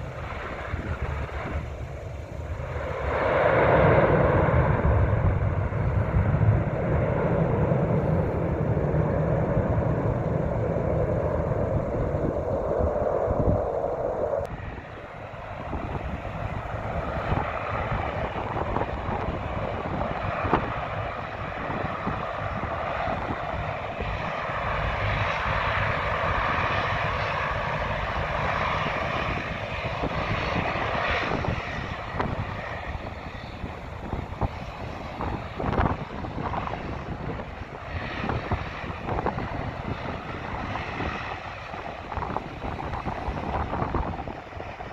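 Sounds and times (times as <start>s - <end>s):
turboprop engines droning: 0.0s - 44.9s.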